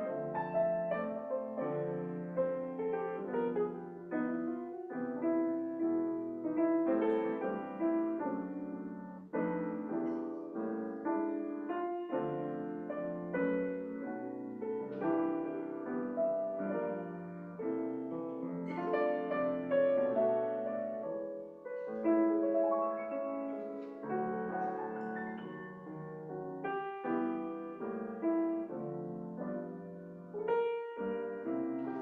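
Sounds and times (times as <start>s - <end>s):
slow gentle piano chords: 0.0s - 32.0s.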